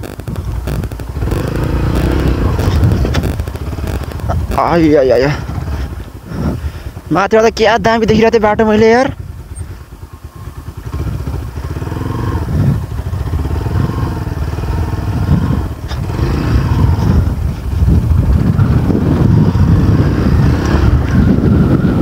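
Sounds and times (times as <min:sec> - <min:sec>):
motorcycle engine revving: 0:00.0 - 0:06.8, 0:09.3 - 0:22.0.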